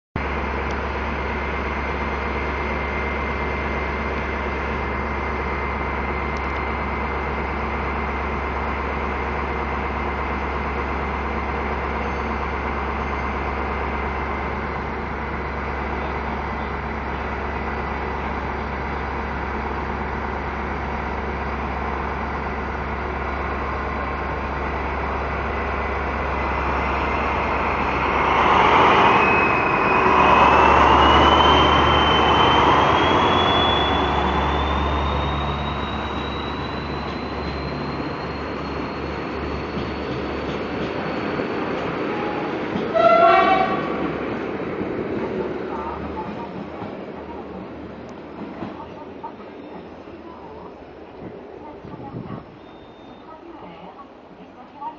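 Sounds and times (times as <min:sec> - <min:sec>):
diesel locomotive engine idling: 0:00.2 - 0:54.9.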